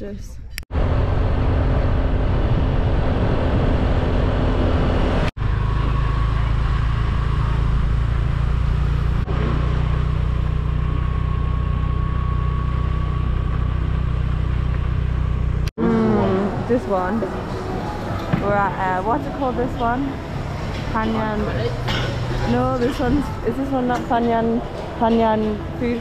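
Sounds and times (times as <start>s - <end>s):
vehicle engine running: 0.7s - 26.0s.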